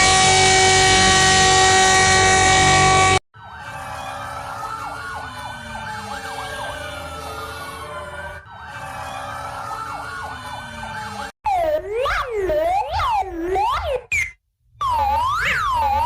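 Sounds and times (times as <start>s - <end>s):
overlapping emergency sirens: 0.0s - 14.0s, 14.8s - 16.0s.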